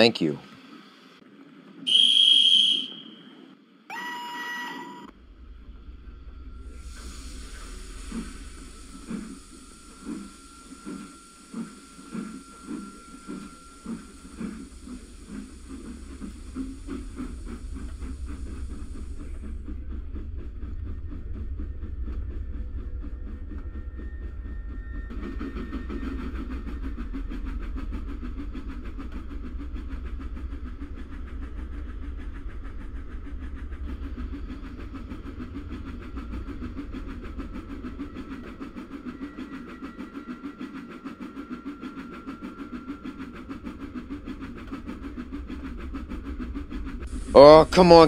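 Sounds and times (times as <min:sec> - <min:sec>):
steam locomotive chuffing: 0:01.9 - 0:03.5, 0:04.2 - 0:48.0
wheels rumbling on rails: 0:05.1 - 0:48.0.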